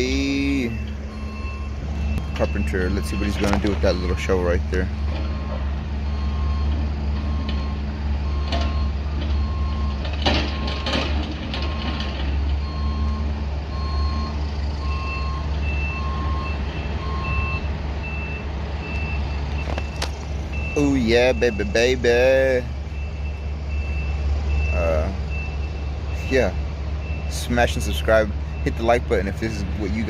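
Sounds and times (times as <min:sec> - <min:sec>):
reversing alarm beeping: 0:00.0 - 0:11.0, 0:11.6 - 0:27.5, 0:28.4 - 0:29.2
heavy machine engine running: 0:00.0 - 0:30.0.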